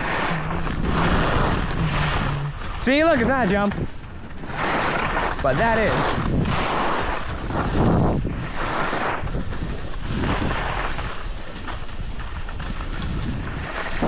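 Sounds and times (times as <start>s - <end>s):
snow hissing under skis: 0.0s - 14.0s
wind rushing over microphone: 0.0s - 14.0s.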